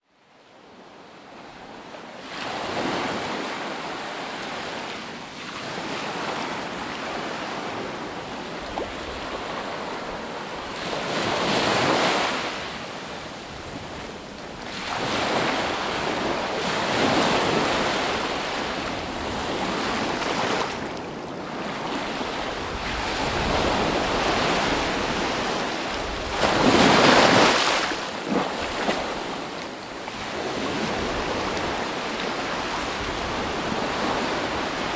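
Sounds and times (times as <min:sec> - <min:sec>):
waves breaking on shore: 0:01.5 - 0:34.9.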